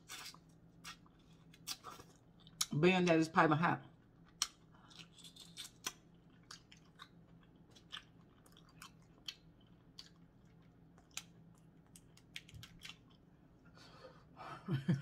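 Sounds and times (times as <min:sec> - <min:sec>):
faint chewing: 0:00.0 - 0:02.8, 0:03.8 - 0:13.3.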